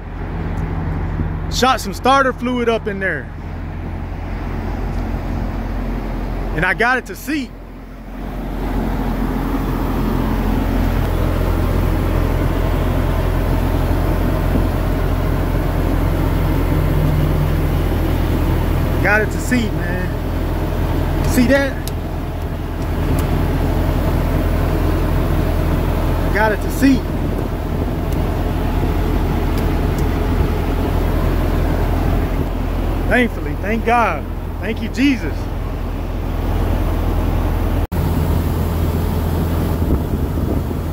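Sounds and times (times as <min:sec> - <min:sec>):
truck engine rumbling: 0:00.0 - 0:40.9.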